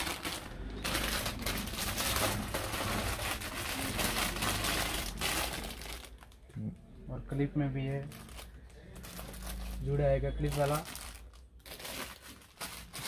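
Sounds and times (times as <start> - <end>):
plastic bag crinkling: 0.0 - 6.5, 7.8 - 13.0.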